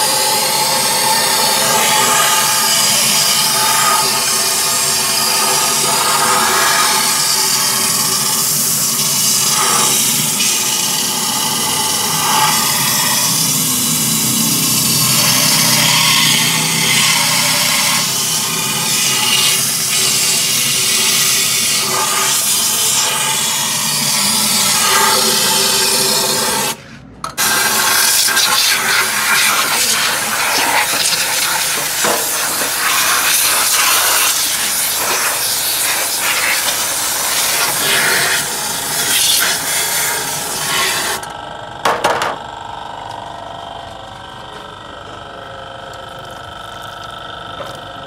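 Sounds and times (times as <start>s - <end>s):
air spray gun hissing: 0.0s - 26.8s, 27.4s - 41.2s
steady hum: 0.0s - 48.0s.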